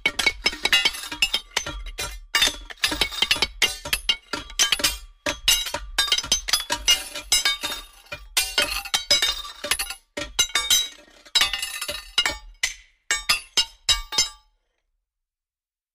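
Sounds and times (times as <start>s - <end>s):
metal clanking against rocks: 0.0s - 14.4s.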